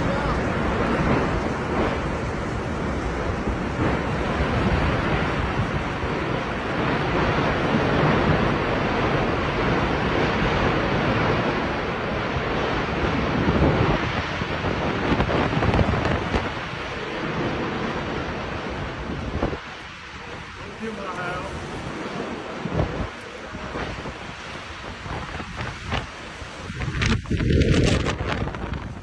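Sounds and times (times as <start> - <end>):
strong winds blowing: 0.0 - 29.0
wind buffeting microphone: 0.0 - 29.0.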